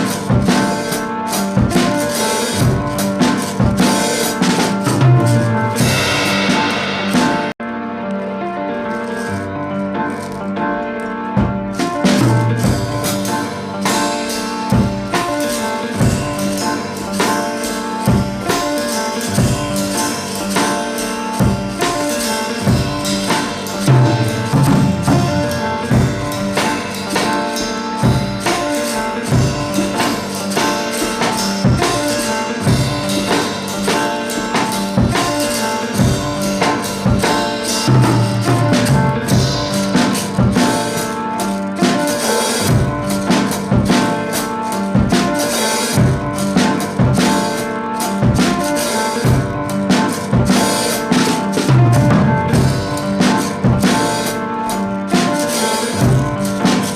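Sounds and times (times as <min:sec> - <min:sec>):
song with drum beat: 0:00.0 - 0:07.6, 0:11.4 - 0:56.9.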